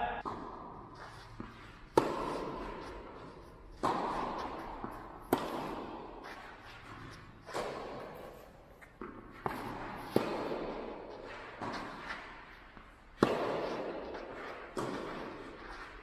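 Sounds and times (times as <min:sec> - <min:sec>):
tennis racket hitting ball: 0:00.0 - 0:16.0.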